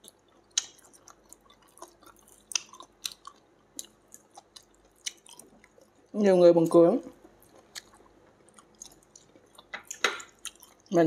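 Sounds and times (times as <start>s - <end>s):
person chewing: 0.0s - 6.1s, 7.1s - 10.9s.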